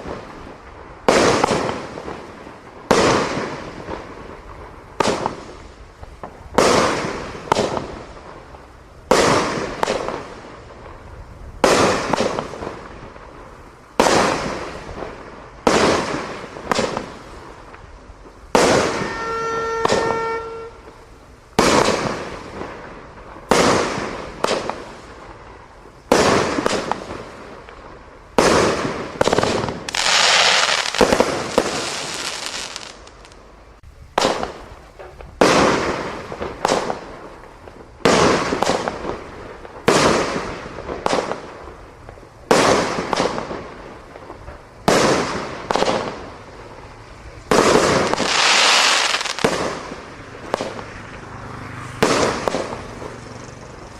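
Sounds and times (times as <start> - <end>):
fireworks bangs: 0.0 - 53.9
fireworks crackling hiss: 0.0 - 53.9.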